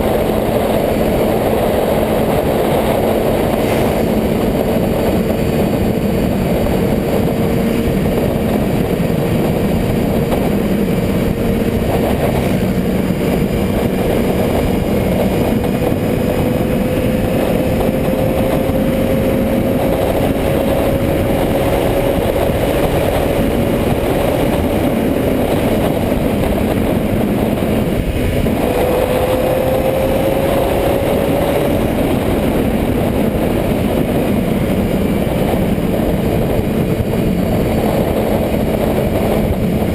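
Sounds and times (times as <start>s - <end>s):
motorcycle engine running: 0.0s - 39.9s
steady rush of noise: 0.0s - 39.9s.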